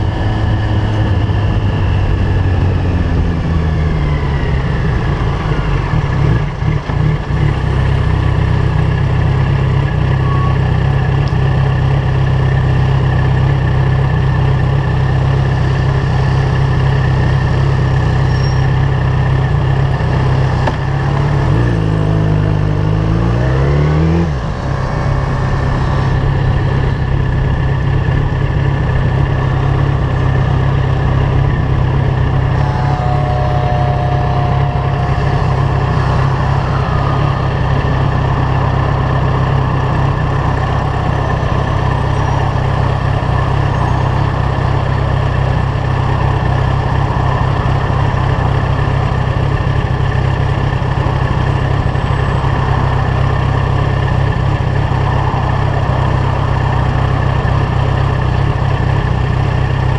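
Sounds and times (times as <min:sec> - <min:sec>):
motorcycle engine idling: 0:00.0 - 0:23.1, 0:24.2 - 0:59.9.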